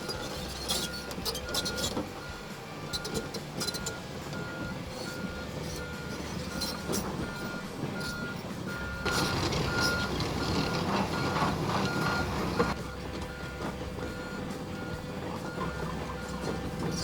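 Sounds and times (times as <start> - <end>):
diesel engine running: 0.0 - 17.0
excavator warning alarm beeping: 0.0 - 17.0.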